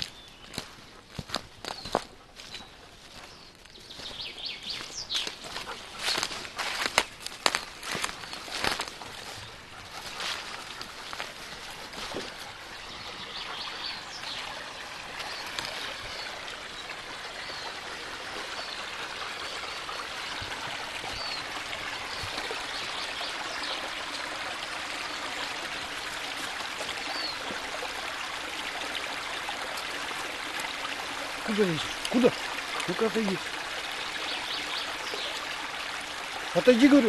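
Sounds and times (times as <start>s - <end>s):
stream rushing and trickling: 0.0s - 37.0s.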